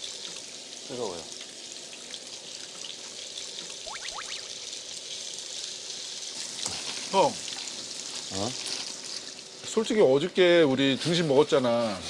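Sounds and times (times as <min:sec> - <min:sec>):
meat sizzling on a grill plate: 0:00.0 - 0:12.0.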